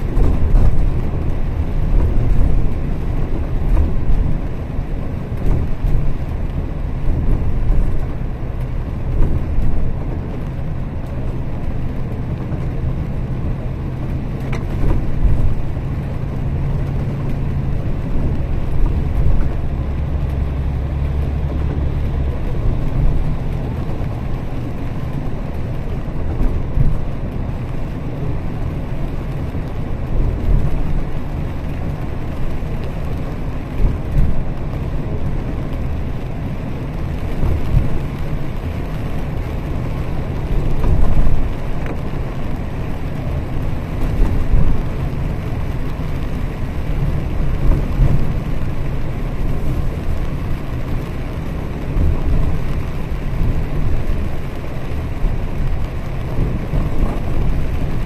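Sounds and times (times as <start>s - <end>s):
bus engine and tyres on wet road: 0.0s - 58.0s.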